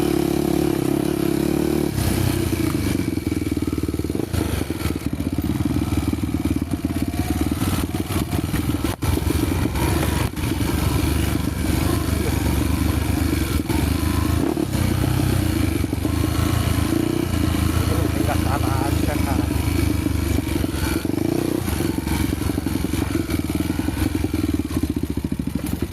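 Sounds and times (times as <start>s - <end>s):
motorcycle engine running: 0.0s - 25.9s
motorcycle knocks and rattles: 2.4s - 15.0s, 15.6s - 25.9s.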